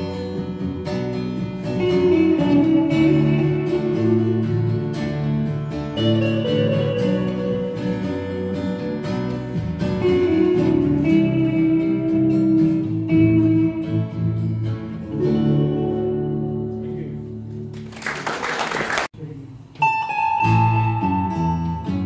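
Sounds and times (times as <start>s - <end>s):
strummed acoustic guitar: 0.0s - 17.7s
electric guitars playing: 0.0s - 18.4s, 19.8s - 22.0s.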